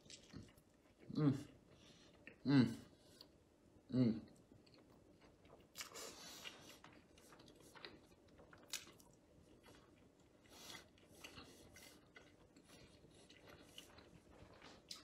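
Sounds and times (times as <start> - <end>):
man chewing food: 0.0 - 3.7, 4.3 - 15.0.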